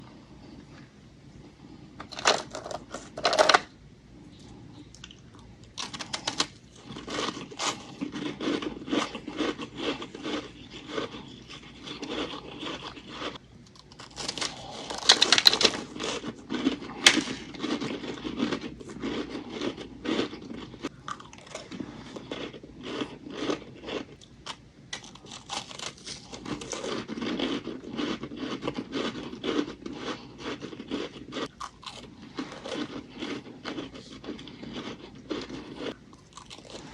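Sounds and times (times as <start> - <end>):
ice crunching between teeth: 5.8 - 24.3, 25.0 - 36.9.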